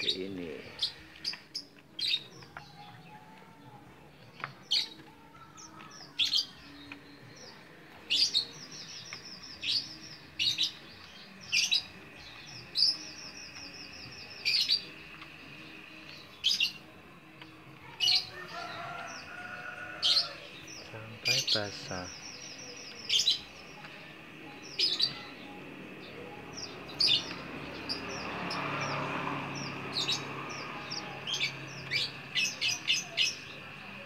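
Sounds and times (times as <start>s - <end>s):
finches chirping: 4.3s - 34.0s.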